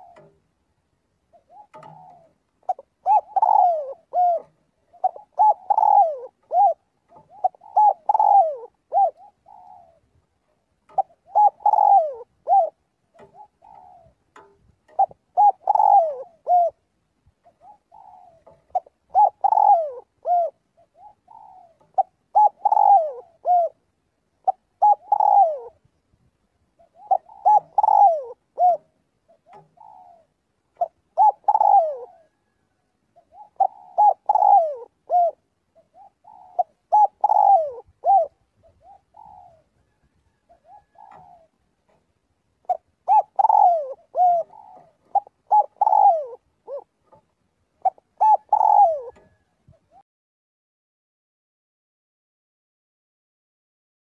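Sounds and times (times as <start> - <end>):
dove cooing: 0.0 - 0.5, 1.2 - 25.9, 26.7 - 50.0.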